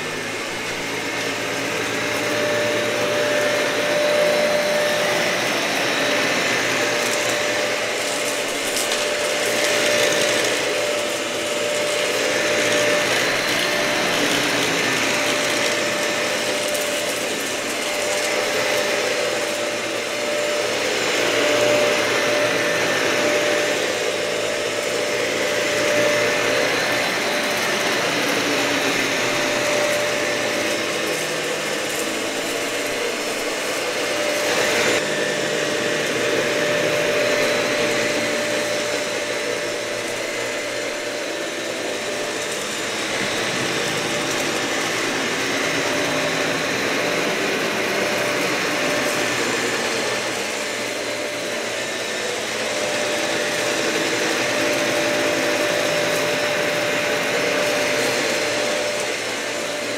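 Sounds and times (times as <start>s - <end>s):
vacuum cleaner on carpet: 0.0s - 59.9s.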